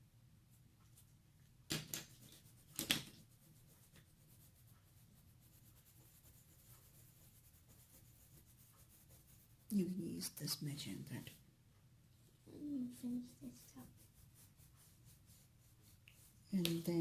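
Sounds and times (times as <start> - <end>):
coloured pencil scratching paper: 2.0 - 11.4, 12.8 - 17.0.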